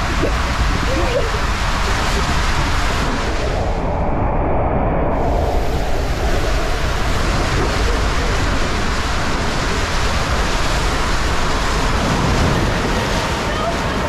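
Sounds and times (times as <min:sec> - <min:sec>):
raft sliding down water slide: 0:00.0 - 0:03.9, 0:05.2 - 0:14.0
water rushing: 0:00.0 - 0:04.0, 0:05.1 - 0:14.0.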